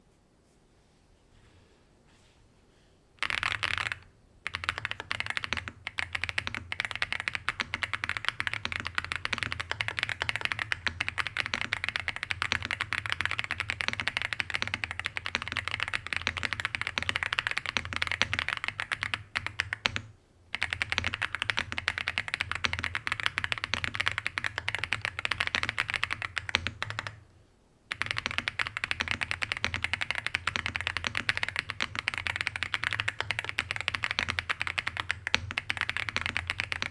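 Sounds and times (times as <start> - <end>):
mechanical keyboard typing: 3.2 - 27.2, 27.9 - 36.9.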